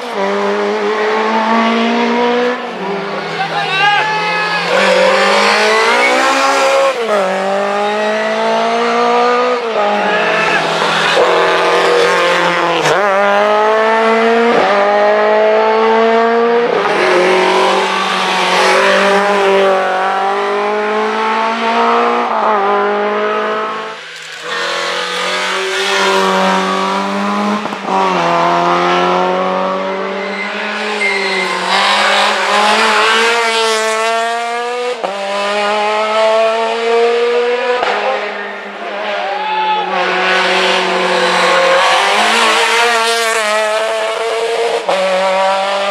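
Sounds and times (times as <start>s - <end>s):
rally cars revving past: 0.0s - 45.9s.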